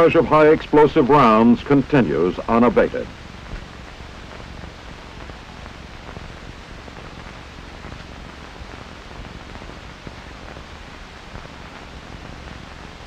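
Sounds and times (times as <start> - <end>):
old film soundtrack hiss: 0.0 - 13.0.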